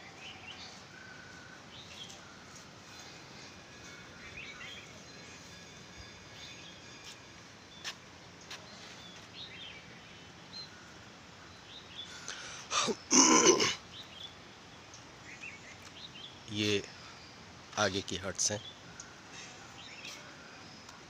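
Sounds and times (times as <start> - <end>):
faint outdoor hiss: 0.0 - 21.0
small birds chirping: 0.0 - 21.0.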